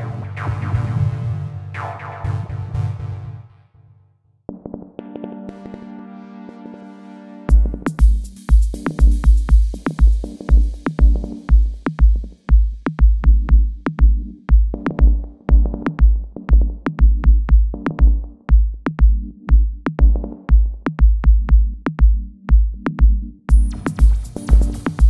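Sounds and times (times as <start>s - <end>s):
drum-machine kick: 0.0s - 2.8s, 7.5s - 25.0s
dub techno music: 0.0s - 3.6s, 4.5s - 25.0s.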